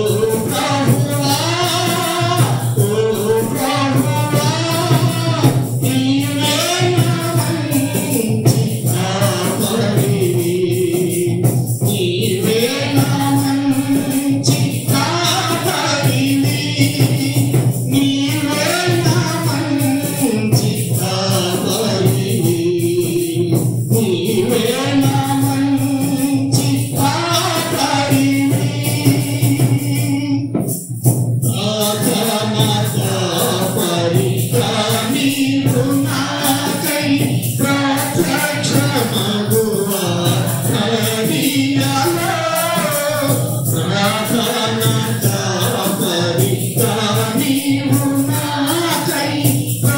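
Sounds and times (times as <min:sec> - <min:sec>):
voices singing along: 0:00.0 - 0:30.6, 0:31.4 - 0:49.9
man singing: 0:00.0 - 0:30.8, 0:31.4 - 0:49.9
tambourine beat: 0:00.0 - 0:49.9.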